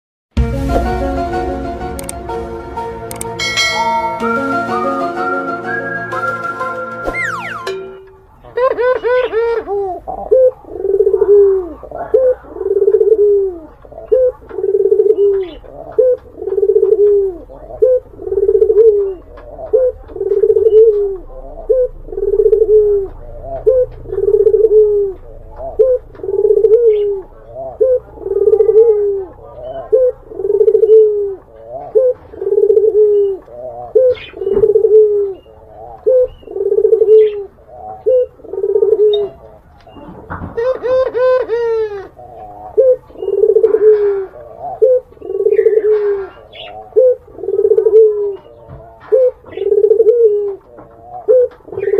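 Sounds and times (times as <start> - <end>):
dove cooing: 8.4 - 51.9.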